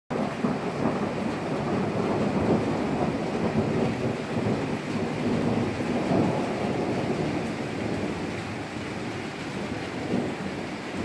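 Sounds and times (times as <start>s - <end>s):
low thunder rumble: 0.1s - 11.0s
rain falling: 0.1s - 11.0s.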